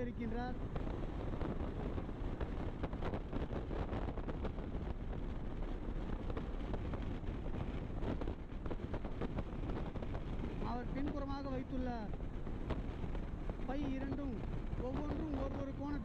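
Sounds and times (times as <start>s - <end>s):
low vehicle rumble: 0.0s - 16.0s
wind buffeting microphone: 0.0s - 16.0s.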